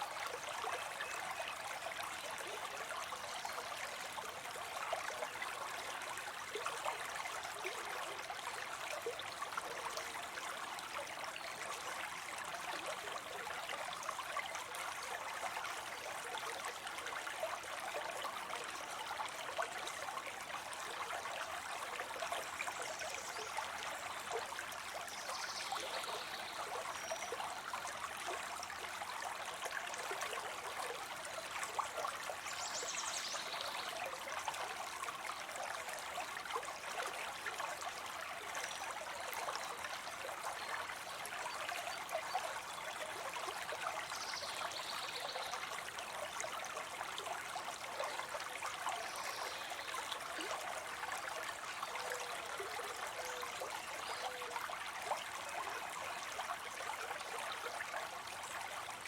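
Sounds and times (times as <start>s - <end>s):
water trickling into a pond: 0.0s - 59.0s.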